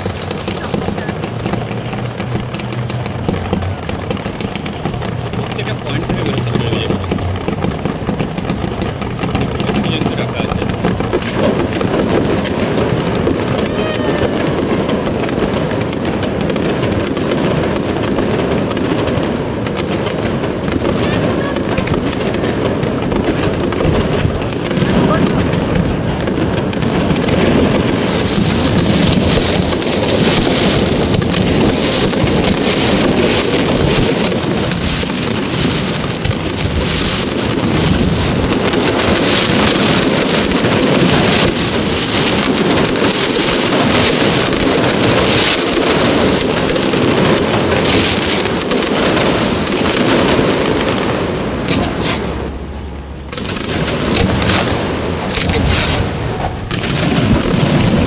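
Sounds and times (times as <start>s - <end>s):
fireworks booms and crackling: 0.0s - 58.0s.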